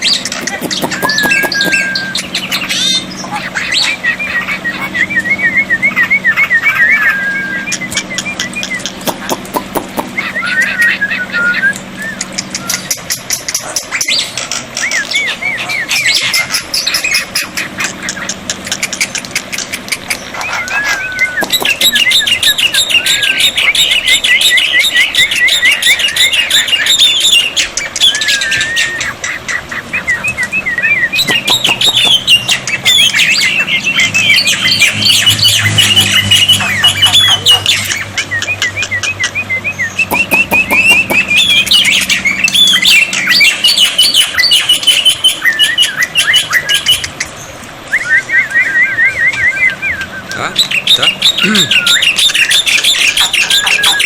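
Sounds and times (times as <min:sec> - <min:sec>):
bird chattering whistles: 0:00.0 - 0:47.3, 0:47.9 - 0:54.0.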